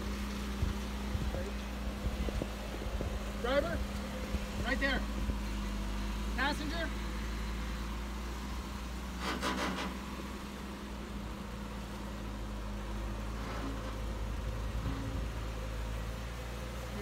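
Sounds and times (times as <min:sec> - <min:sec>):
car engine running low: 0:00.0 - 0:17.0.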